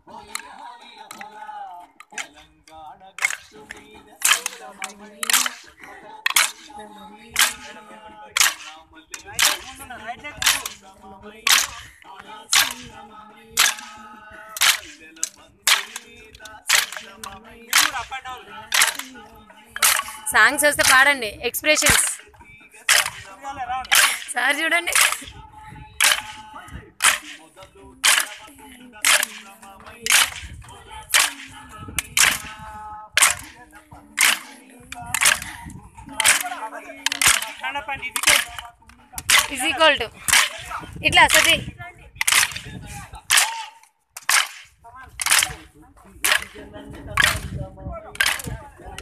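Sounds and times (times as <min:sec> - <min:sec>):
folk melody sung: 0:00.0 - 0:49.0
people singing: 0:00.0 - 0:49.0
wooden sticks clacking together: 0:00.1 - 0:01.4, 0:02.0 - 0:13.0, 0:13.6 - 0:25.4, 0:26.0 - 0:41.6, 0:42.2 - 0:47.6, 0:48.2 - 0:49.0.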